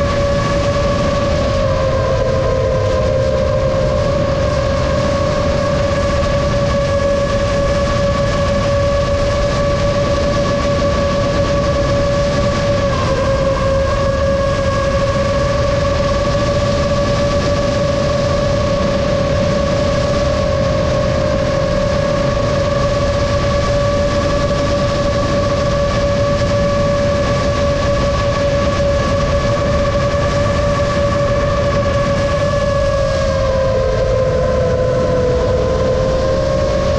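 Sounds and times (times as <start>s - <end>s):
drone propellers whining: 0.0s - 36.9s.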